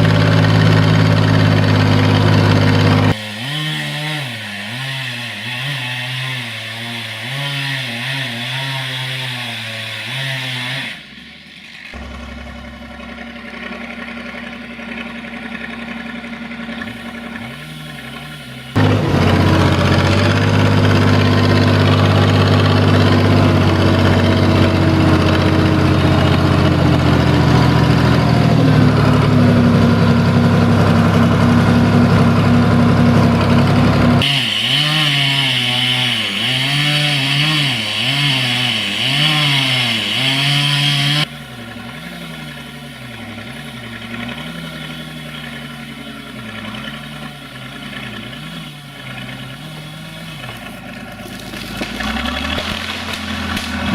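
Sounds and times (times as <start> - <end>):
tractor diesel engine working: 0.0 - 53.9.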